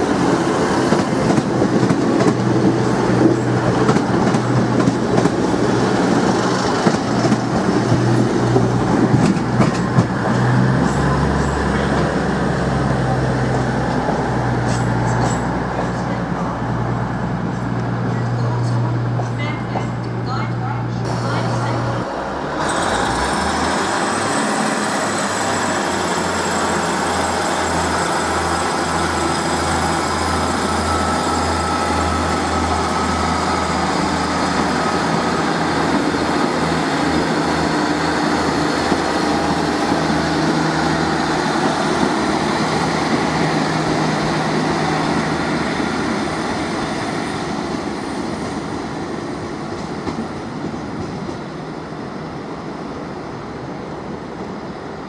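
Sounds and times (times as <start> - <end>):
diesel train engine humming: 0.0 - 55.0
train wheels on rails: 0.0 - 55.0.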